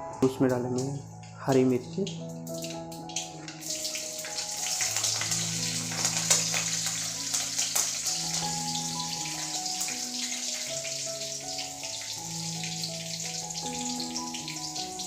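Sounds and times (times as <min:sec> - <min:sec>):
soft background music: 0:00.0 - 0:15.0
chillies sizzling in hot oil: 0:00.8 - 0:15.0.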